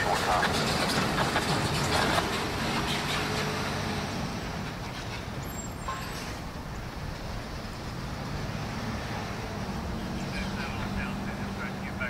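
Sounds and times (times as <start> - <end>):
distant engine rumble: 0.0 - 12.0
outdoor background noise: 0.0 - 12.0.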